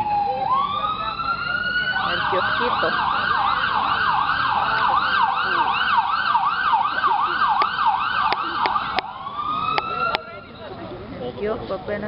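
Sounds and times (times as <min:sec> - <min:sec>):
siren yelping: 0:00.0 - 0:10.7.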